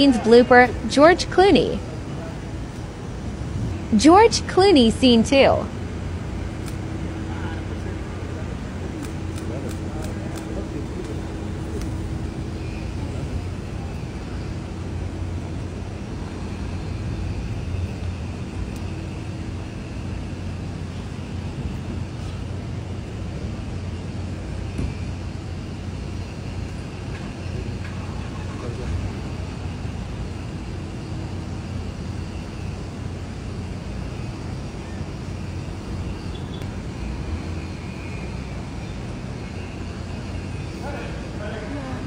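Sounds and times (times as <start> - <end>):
faint constant hum: 0.0 - 42.0
low city rumble: 0.0 - 42.0.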